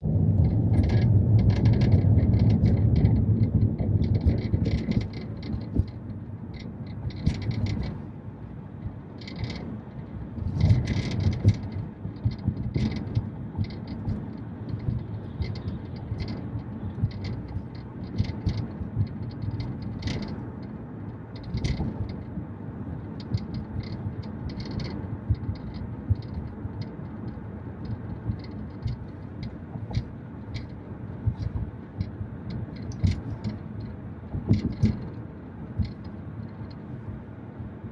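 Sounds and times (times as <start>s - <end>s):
sharp rattles and clicks: 0.0s - 37.3s
low road rumble: 0.0s - 37.9s.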